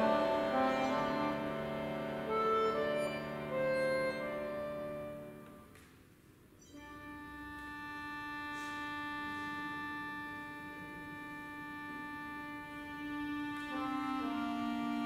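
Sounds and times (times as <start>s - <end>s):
accordions holding soft chord: 0.0s - 5.8s, 6.6s - 15.0s.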